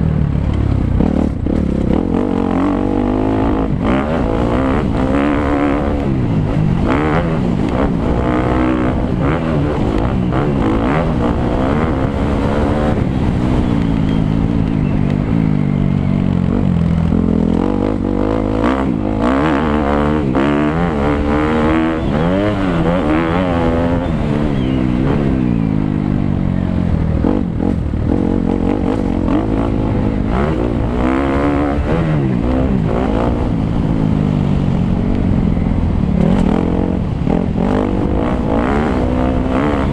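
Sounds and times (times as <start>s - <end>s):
motocross bike engine revving: 0.7s - 34.6s, 36.1s - 39.9s.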